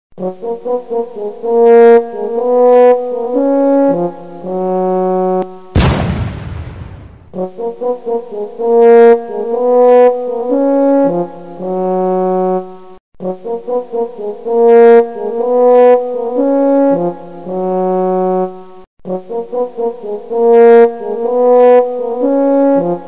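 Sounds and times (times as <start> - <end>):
brass-toned melody: 0.2 - 12.6, 14.0 - 18.5, 19.1 - 23.0.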